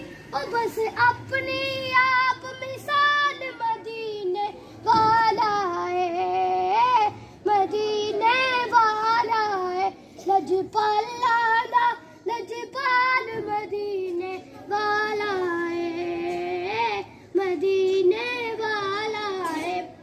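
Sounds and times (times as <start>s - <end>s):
boy singing solo: 0.0s - 20.0s.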